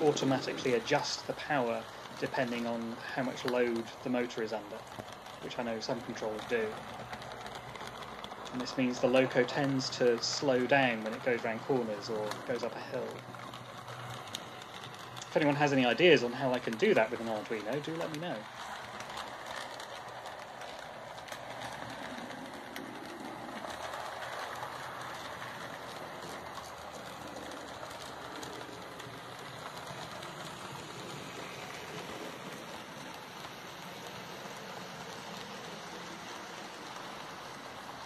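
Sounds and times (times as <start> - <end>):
model train motor running: 0.0 - 38.0
wheels on rails: 0.0 - 38.0
faint clicks: 3.2 - 34.8.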